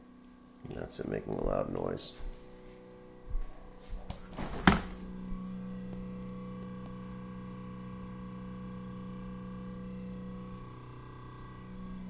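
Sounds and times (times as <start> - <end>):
refrigerator humming: 0.0 - 12.0.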